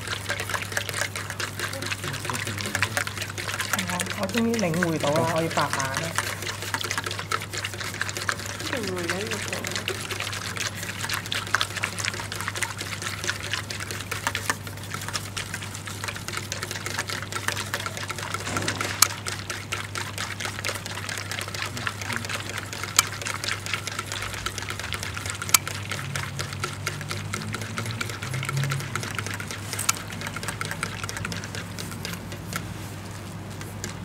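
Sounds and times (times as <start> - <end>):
foam bubbles fizzing and crackling: 0.0 - 34.0.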